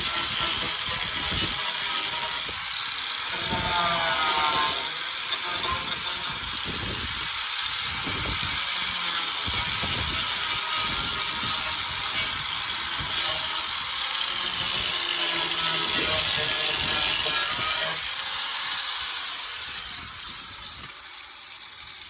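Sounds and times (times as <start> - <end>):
angle grinder sanding steel: 0.0 - 22.0.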